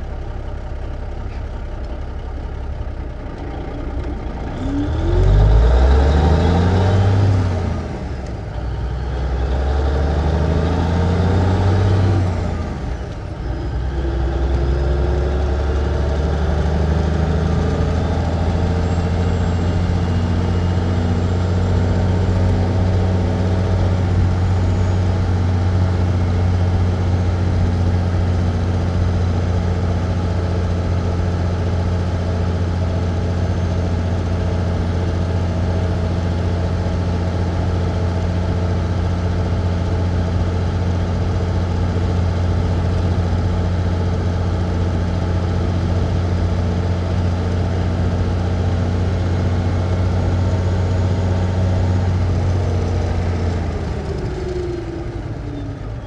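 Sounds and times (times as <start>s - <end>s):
truck engine pulling away: 0.0s - 56.0s.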